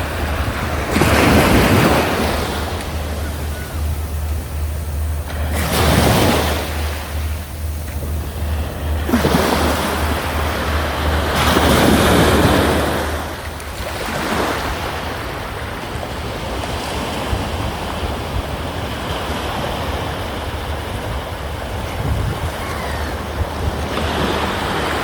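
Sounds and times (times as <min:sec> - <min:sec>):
sea waves crashing on shore: 0:00.0 - 0:25.0
wind: 0:00.0 - 0:25.0.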